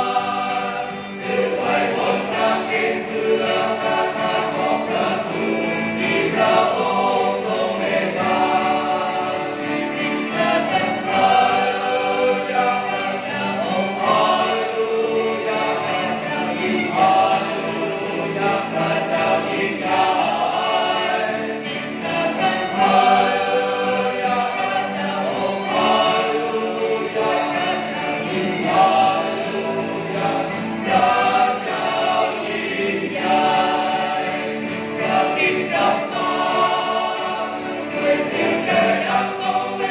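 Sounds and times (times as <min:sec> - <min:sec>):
acoustic guitars: 0:00.0 - 0:39.9
choir singing a hymn: 0:00.0 - 0:39.9
violin: 0:00.0 - 0:39.9.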